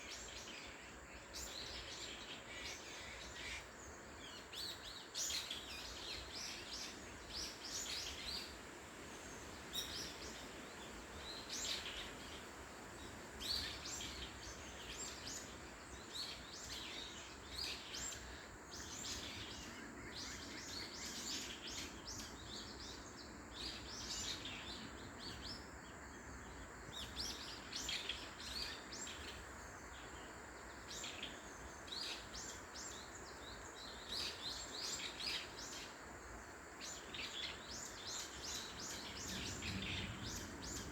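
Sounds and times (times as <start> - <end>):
songbirds chirping: 0.0 - 40.9
steady background hiss: 0.0 - 40.9.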